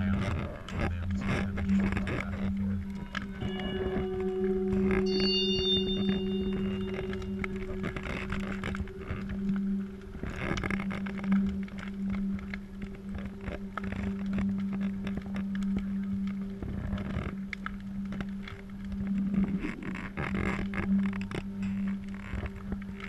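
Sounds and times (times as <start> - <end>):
steady low hum: 0.0 - 23.0
wood fire crackling: 0.0 - 23.0.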